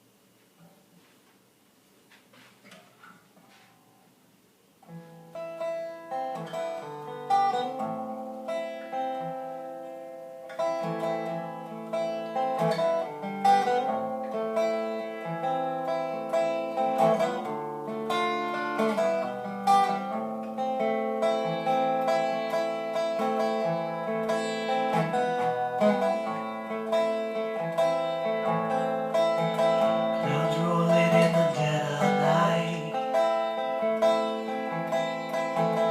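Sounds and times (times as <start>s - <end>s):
acoustic guitar plucked notes: 4.8s - 35.9s.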